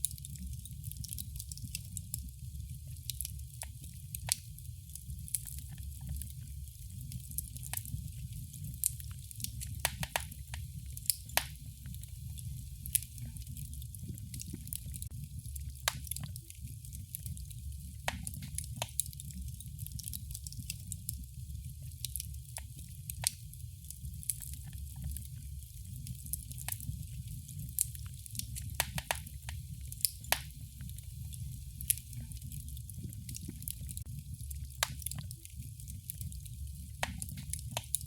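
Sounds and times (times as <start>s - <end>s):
fire crackling in a fireplace: 0.0s - 38.0s.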